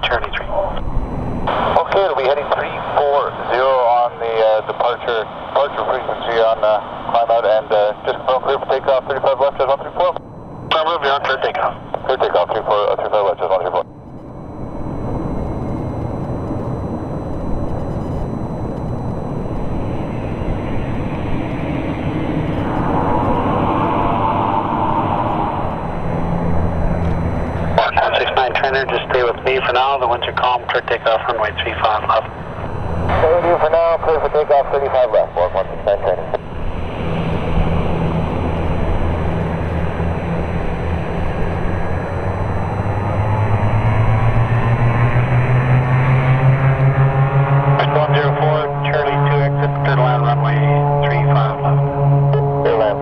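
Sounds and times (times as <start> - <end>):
high engine whine: 0.0 - 53.0
turboprop engines running: 0.0 - 53.0.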